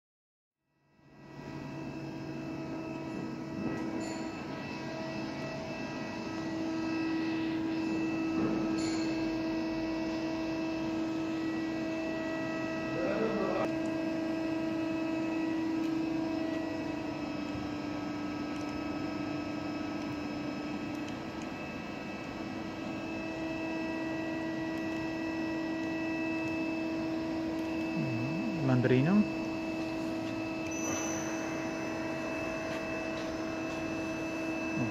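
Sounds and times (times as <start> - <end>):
lathe machine hum and whine: 0.7 - 34.9.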